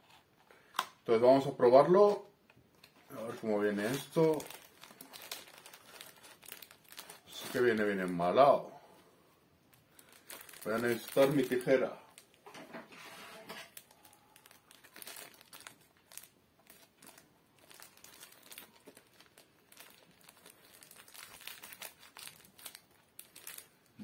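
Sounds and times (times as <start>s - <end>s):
packet crinkling: 1.9s - 8.3s, 9.7s - 12.5s, 13.7s - 24.0s.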